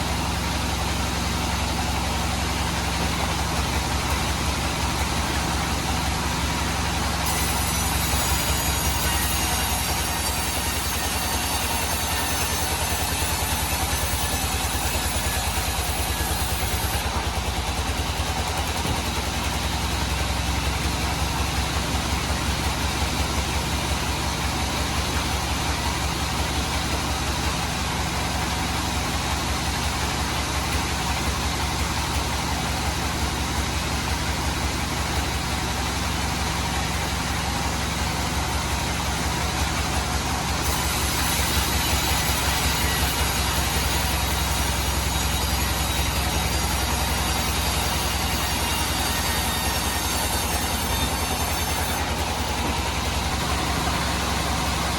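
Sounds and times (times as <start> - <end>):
band sawmill running: 0.0 - 54.9.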